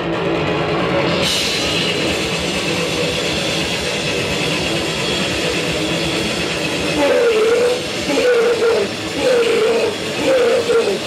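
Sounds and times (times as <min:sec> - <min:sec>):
distorted electric guitar: 0:00.0 - 0:11.0
cymbal noise: 0:00.8 - 0:11.0.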